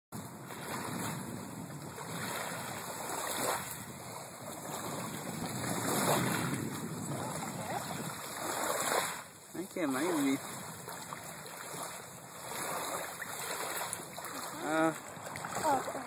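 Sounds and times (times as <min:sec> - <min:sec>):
waves lapping on pebble shore: 0:00.2 - 0:16.0.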